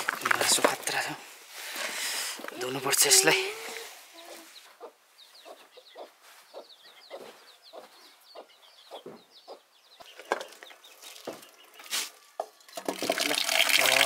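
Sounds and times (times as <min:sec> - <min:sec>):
chickens clucking: 0:00.2 - 0:12.9.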